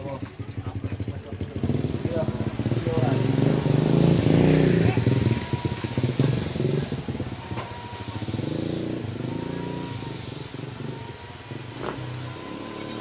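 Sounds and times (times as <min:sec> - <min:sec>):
small pump engine running: 0:00.0 - 0:13.0.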